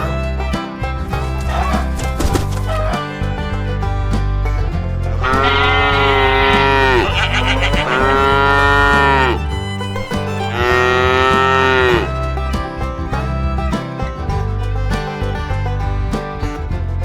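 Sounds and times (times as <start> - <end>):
country music: 0.0 - 17.0.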